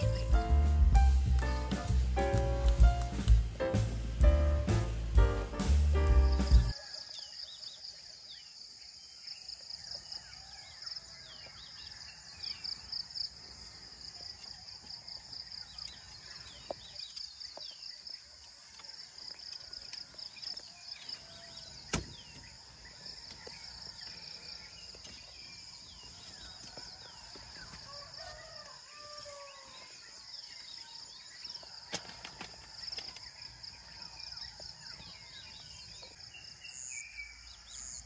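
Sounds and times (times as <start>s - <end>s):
insects trilling: 6.4s - 38.0s.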